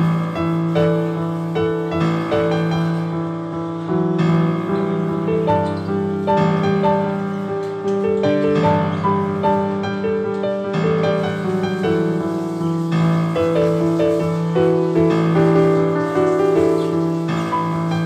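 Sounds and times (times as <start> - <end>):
slow piano melody over chords: 0.0 - 18.0.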